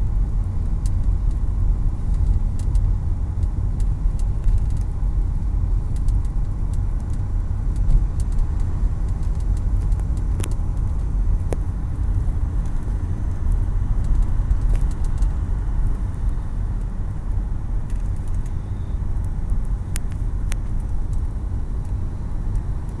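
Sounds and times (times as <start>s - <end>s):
engine and tyre rumble: 0.0s - 23.0s.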